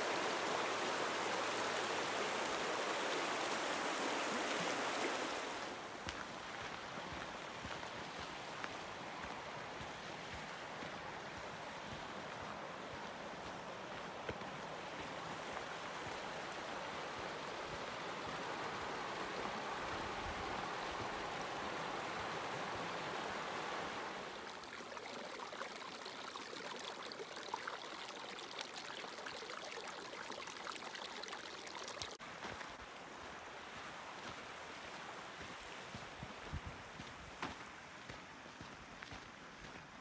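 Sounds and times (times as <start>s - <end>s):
river running over rocks: 0.0s - 38.9s.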